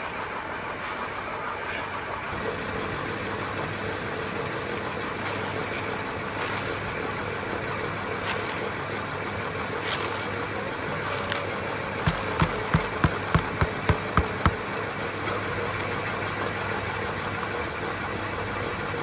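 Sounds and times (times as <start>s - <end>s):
machine motor humming: 0.0s - 19.0s.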